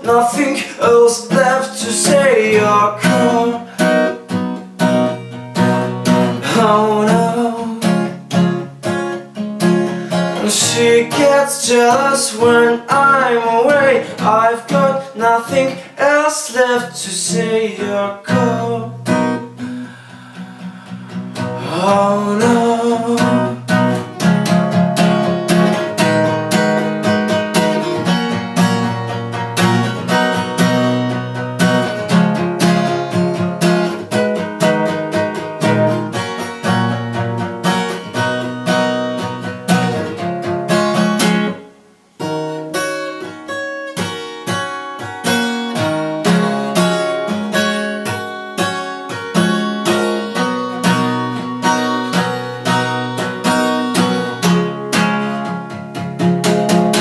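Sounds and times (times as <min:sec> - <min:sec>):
acoustic guitar strumming chords: 0:00.0 - 0:57.0.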